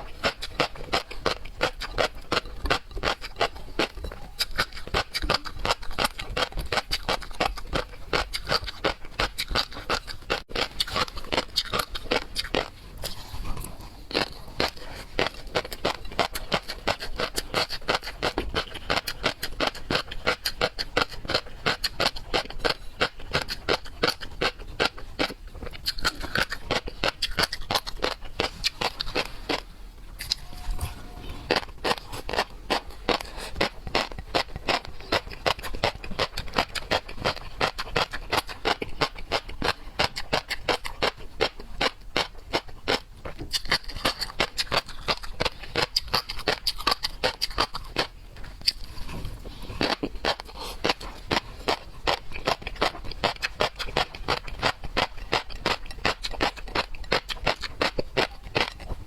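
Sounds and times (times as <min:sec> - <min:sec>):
chewing seafood: 0:00.0 - 0:59.0.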